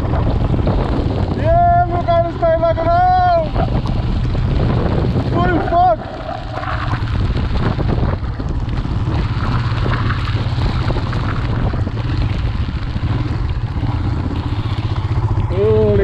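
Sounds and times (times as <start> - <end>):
motorcycle low rumble: 0.0 - 16.0
wind buffeting microphone: 0.0 - 16.0.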